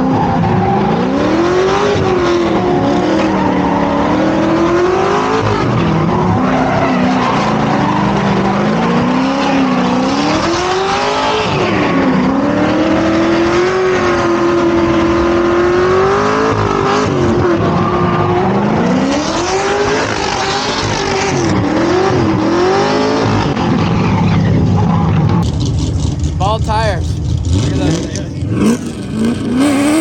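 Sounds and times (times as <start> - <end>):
car engine revving: 0.0 - 30.0
tire noise: 0.0 - 30.0.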